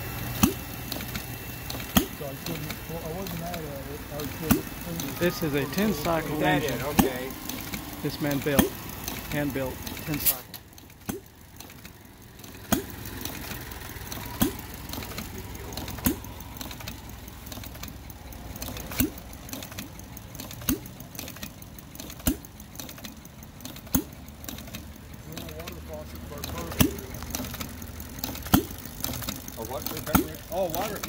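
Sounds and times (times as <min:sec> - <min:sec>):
engine firing pops: 0:00.0 - 0:05.4, 0:06.1 - 0:31.0
engine running slowly: 0:00.0 - 0:31.0.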